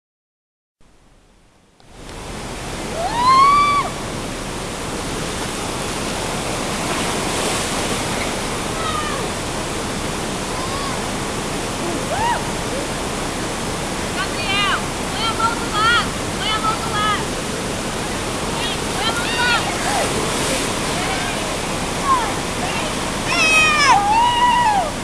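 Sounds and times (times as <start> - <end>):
waterfall pouring into pool: 2.2 - 25.0.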